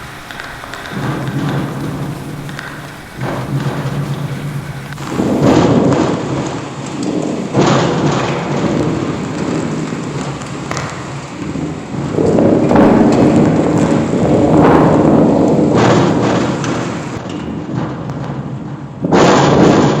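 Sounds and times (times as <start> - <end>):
steady rain: 0.0 - 20.0
wind: 0.0 - 20.0.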